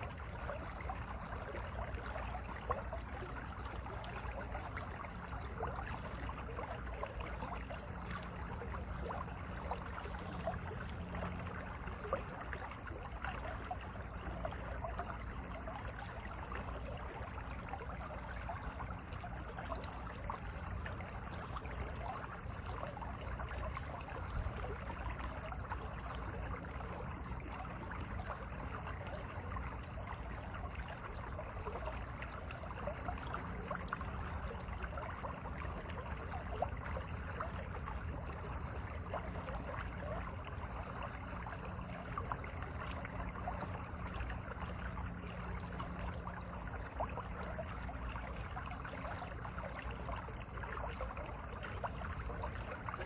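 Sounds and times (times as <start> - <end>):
stream flowing over rocks: 0.0 - 53.0.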